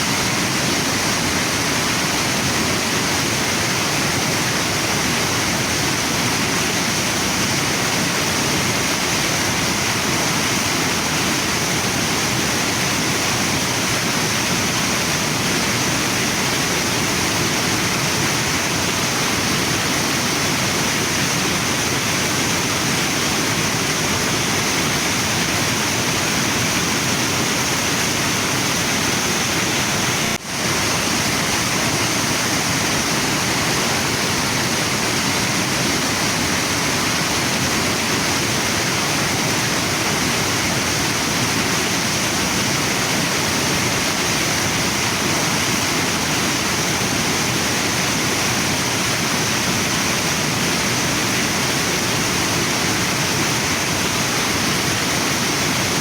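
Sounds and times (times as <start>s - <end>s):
waterfall and river rushing: 0.0s - 56.0s.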